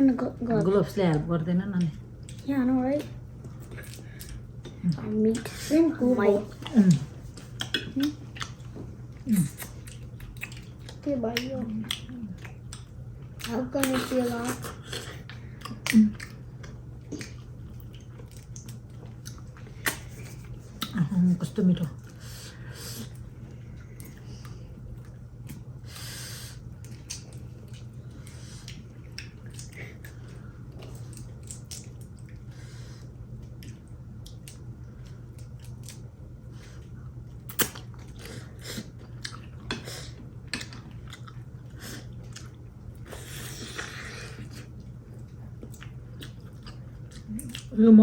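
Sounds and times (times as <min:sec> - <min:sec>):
steady low hum: 0:00.0 - 0:48.0
people chewing: 0:00.1 - 0:48.0.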